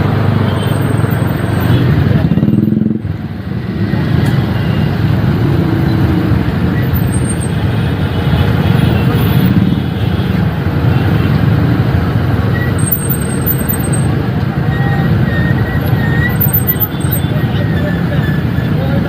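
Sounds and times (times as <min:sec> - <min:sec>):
motorcycle running: 0:00.0 - 0:19.0
road and traffic noise: 0:00.0 - 0:19.0.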